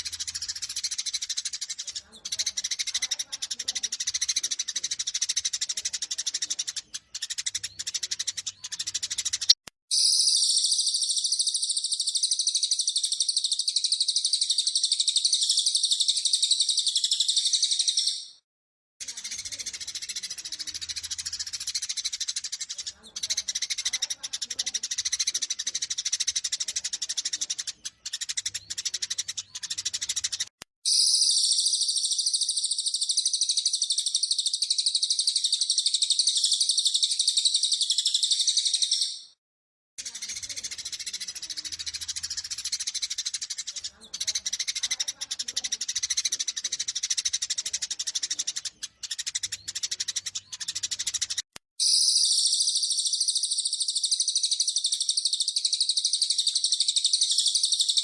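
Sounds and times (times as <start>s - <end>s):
continuous high bird trill: 0.0s - 18.4s, 19.0s - 39.4s, 40.0s - 58.0s
sparrows chattering: 0.0s - 18.4s, 19.0s - 39.4s, 40.0s - 58.0s.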